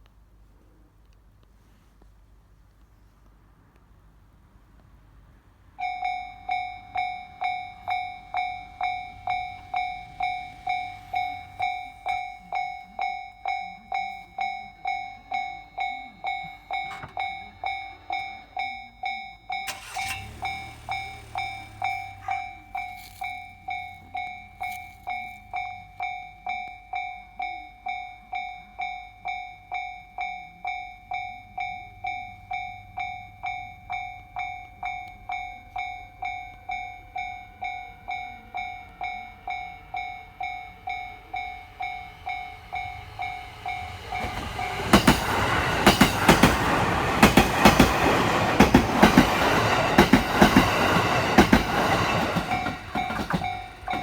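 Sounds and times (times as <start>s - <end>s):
train rumbling past: 4.5s - 18.8s, 19.7s - 25.8s, 31.1s - 54.0s
level crossing alarm ringing: 5.8s - 54.0s.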